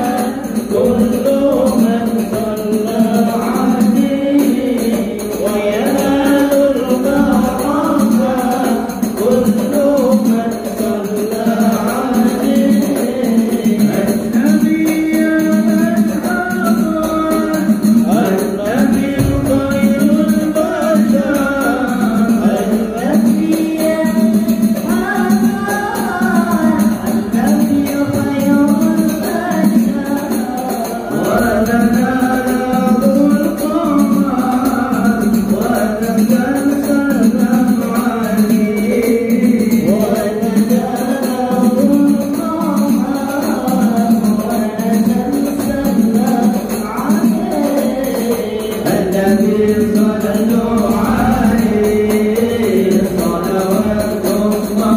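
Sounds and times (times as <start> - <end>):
devotional song singing: 0.0 - 54.9
light steady percussion: 0.0 - 54.9.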